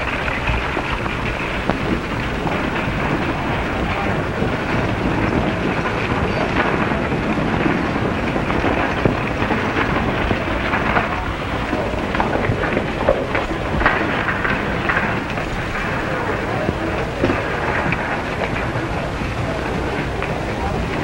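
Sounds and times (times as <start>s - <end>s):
street bustle: 0.0s - 21.0s.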